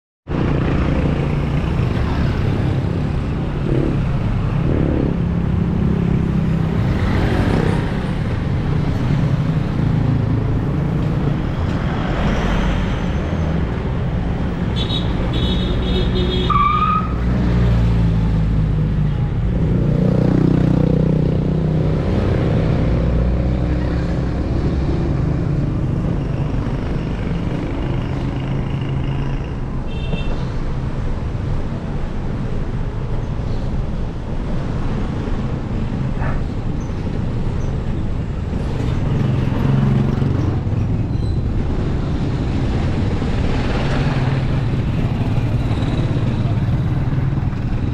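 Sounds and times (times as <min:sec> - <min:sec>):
vehicles passing close by: 0:00.3 - 0:47.9.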